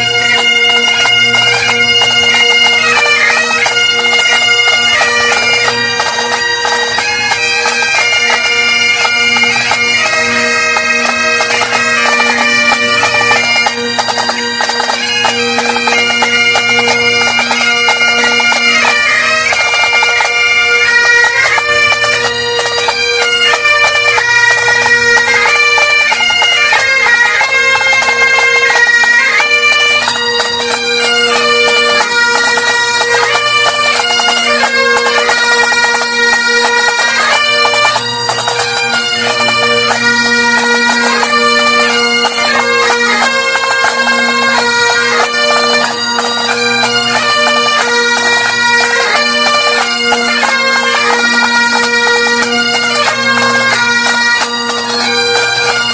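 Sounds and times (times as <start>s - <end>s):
bagpipe chanter melody: 0.0s - 55.9s
bagpipe drones: 0.0s - 55.9s.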